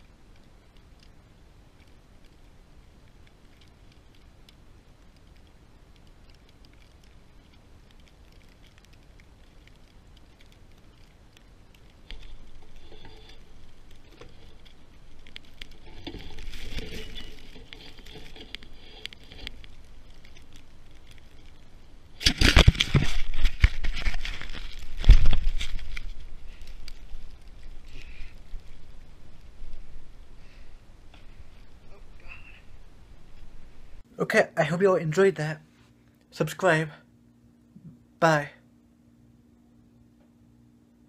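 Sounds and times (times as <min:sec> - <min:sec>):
faint steady hiss: 0:00.0 - 0:41.0.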